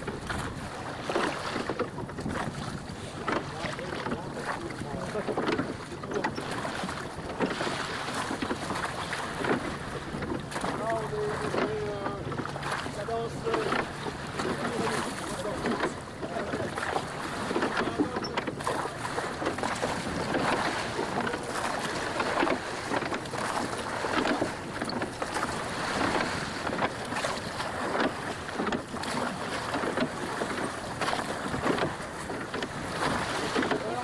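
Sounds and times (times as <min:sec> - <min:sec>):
water slapping against boat hull: 0:00.0 - 0:34.0
wind buffeting microphone: 0:00.0 - 0:34.0.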